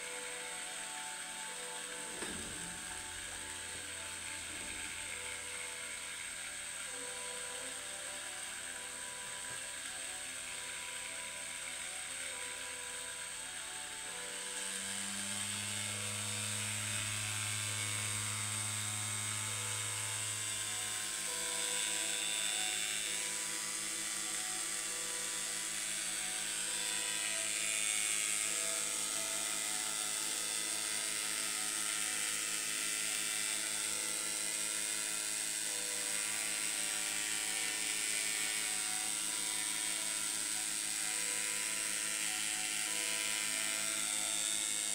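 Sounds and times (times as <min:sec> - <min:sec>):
electrical buzz with high whine: 0:00.0 - 0:44.9.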